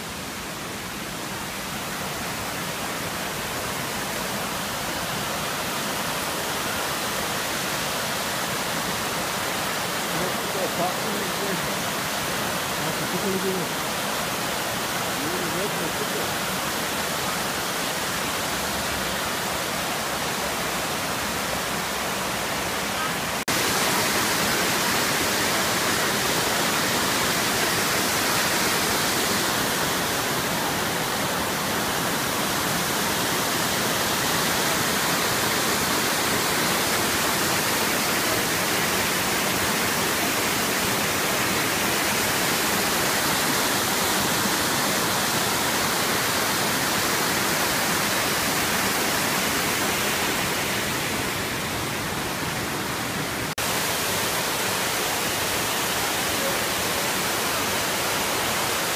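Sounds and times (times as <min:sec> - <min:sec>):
waterfall rushing over rocks: 0:00.0 - 0:58.9.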